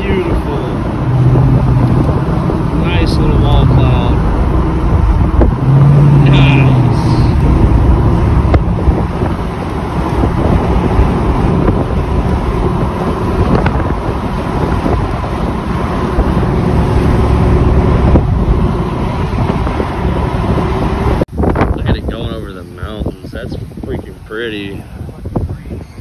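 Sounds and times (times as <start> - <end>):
car road noise: 0.0 - 26.0
wind buffeting microphone: 0.0 - 26.0
wind rush: 0.0 - 26.0.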